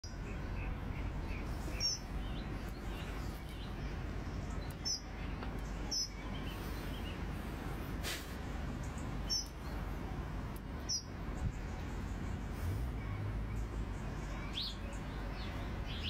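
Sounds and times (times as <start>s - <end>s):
birds chirping: 0.0s - 16.0s
low background noise: 0.0s - 16.0s.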